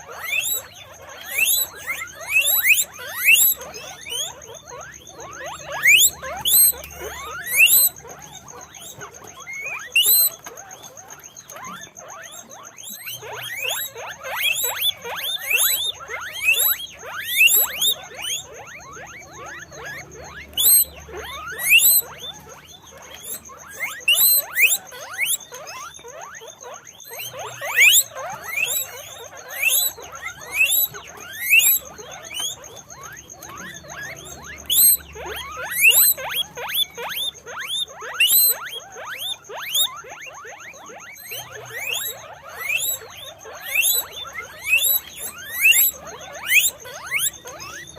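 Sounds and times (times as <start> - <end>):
guinea pigs squeaking: 0.0 - 47.9.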